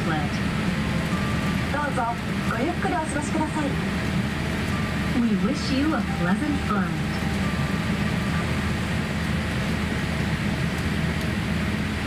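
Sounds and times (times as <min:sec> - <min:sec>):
broad rush of air: 0:00.0 - 0:12.0
low cabin hum: 0:00.0 - 0:12.0.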